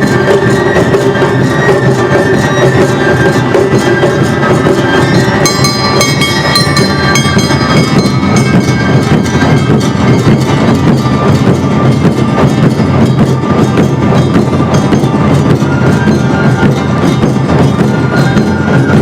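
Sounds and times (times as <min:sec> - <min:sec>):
festival drums gongs and flutes: 0:00.0 - 0:19.0
high metallic ringing: 0:00.0 - 0:19.0.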